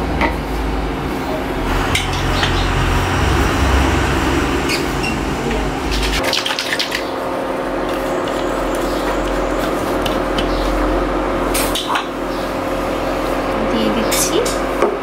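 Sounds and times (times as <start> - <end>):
induction cooktop humming: 0.0 - 15.0.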